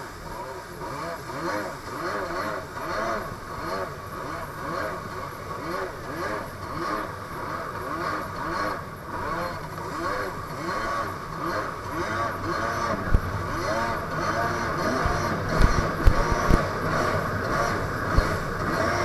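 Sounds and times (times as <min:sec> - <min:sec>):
jet ski engine running: 0:00.0 - 0:19.0
wind: 0:00.0 - 0:19.0.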